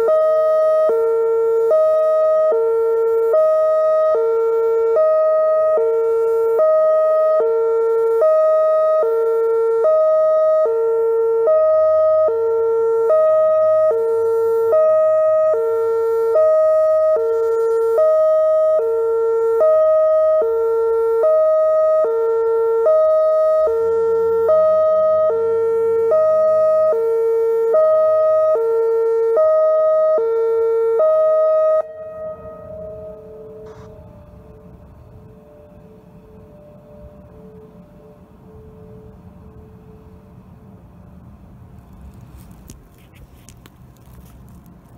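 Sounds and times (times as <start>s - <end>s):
hi-lo warning siren: 0.0s - 44.9s.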